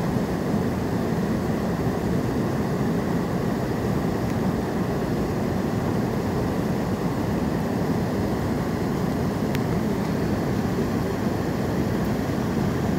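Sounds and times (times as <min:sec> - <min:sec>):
river rushing over weir: 0:00.0 - 0:12.9.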